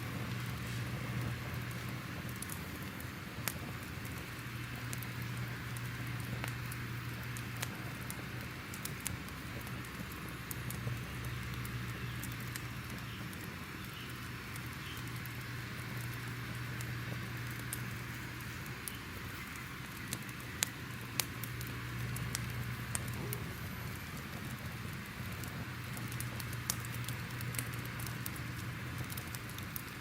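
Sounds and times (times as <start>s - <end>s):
fire crackling and popping: 0.0s - 30.0s
low steady hum: 0.0s - 30.0s.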